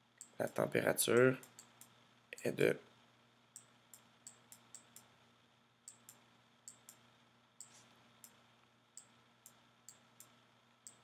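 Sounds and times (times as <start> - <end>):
quiet low hum: 0.0 - 11.0.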